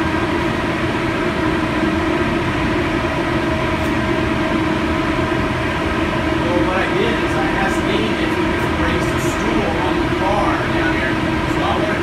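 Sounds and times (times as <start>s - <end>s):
wind tunnel fans rushing air: 0.0s - 12.0s.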